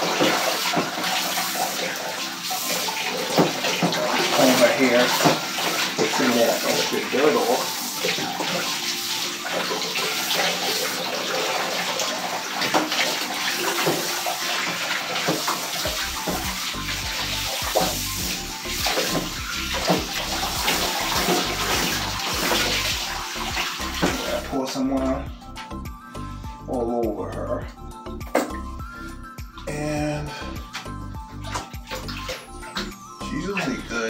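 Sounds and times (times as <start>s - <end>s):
water spraying and splashing: 0.0s - 25.2s, 30.5s - 34.0s
background music: 0.0s - 34.0s.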